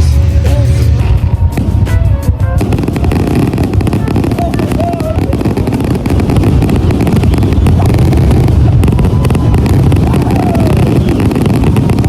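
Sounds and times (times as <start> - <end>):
fireworks booms and crackling pops: 0.0 - 12.0.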